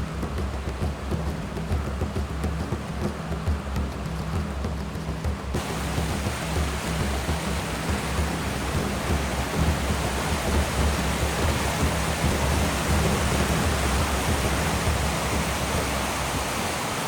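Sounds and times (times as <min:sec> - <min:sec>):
fast-flowing water rushing: 0:00.0 - 0:17.0.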